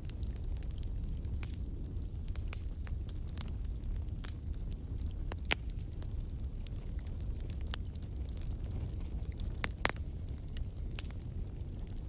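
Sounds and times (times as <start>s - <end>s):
fire low rumble: 0.0s - 12.0s
wood fire crackling and popping: 0.0s - 12.0s.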